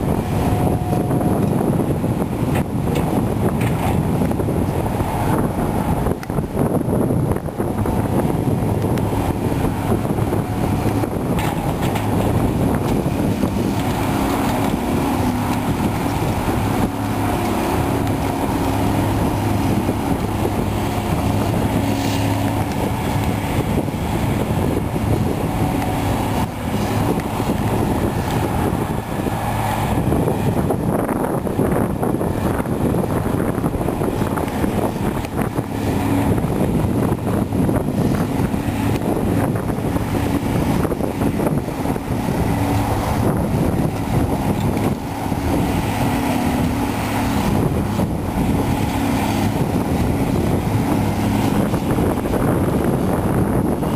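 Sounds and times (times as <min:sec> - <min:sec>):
excavator diesel engine droning: 0:00.0 - 0:53.9.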